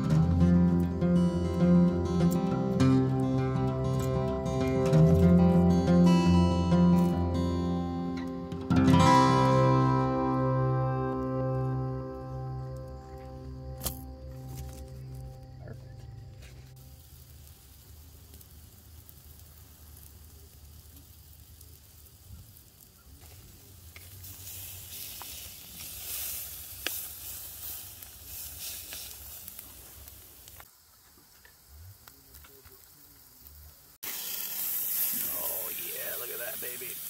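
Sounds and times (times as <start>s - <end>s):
steak sizzling on a grill: 0.0s - 37.0s.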